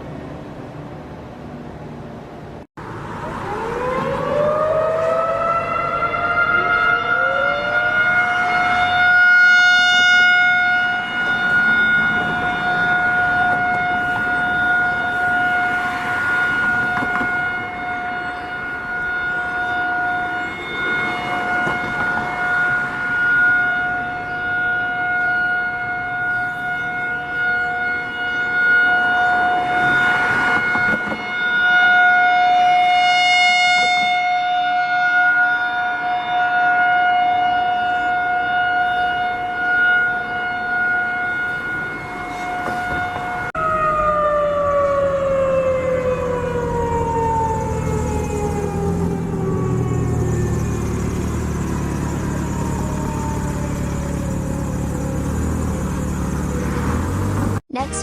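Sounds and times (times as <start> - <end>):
siren holding steady pitch: 2.8 - 58.0.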